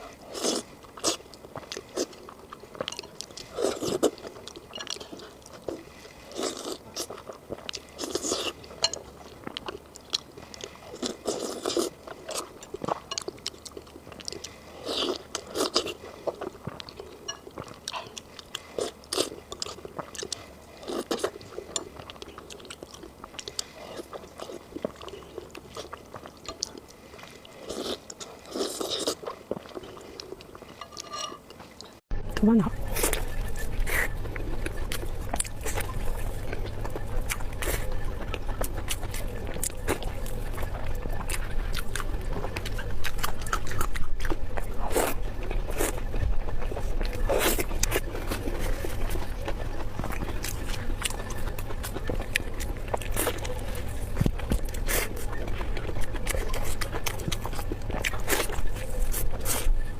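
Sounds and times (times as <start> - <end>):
person chewing: 0.0 - 59.9.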